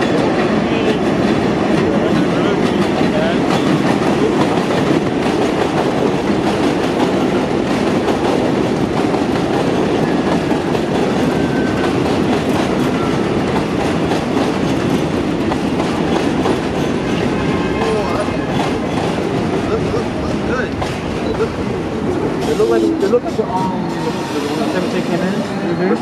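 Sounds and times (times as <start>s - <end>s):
train rumbling on elevated track: 0.0s - 26.0s.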